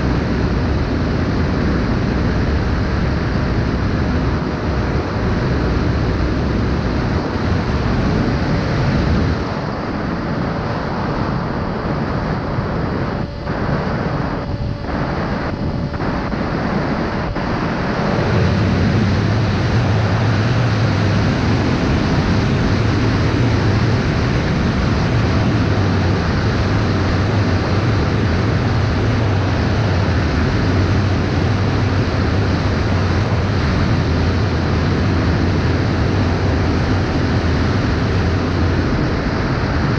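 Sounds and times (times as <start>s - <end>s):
low rumble: 0.0s - 39.9s
wind noise on microphone: 0.0s - 39.9s.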